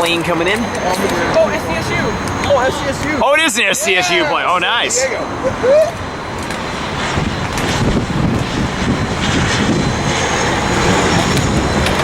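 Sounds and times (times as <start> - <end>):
turboprop airliner passing: 0.0 - 12.0.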